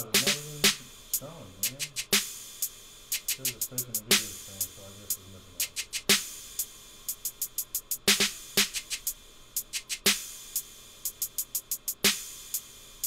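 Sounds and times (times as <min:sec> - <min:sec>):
hip-hop drum pattern: 0:00.0 - 0:13.0.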